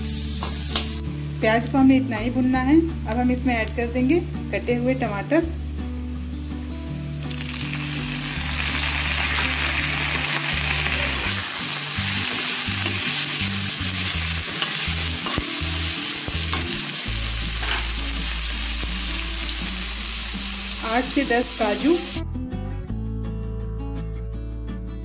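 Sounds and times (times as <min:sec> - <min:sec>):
vegetables sizzling in hot oil: 0:00.0 - 0:22.2.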